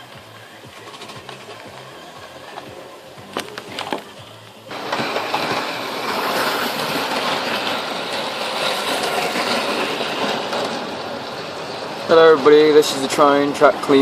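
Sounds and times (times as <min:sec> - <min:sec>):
model train motor and wheels: 0:00.0 - 0:14.0
rail joints clicking: 0:00.0 - 0:14.0.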